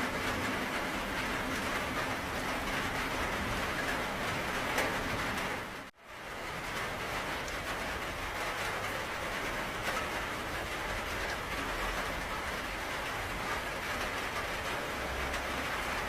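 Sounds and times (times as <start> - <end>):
steady rain hiss: 0.0 - 16.0
raindrop ticks: 0.2 - 5.7, 6.6 - 16.0.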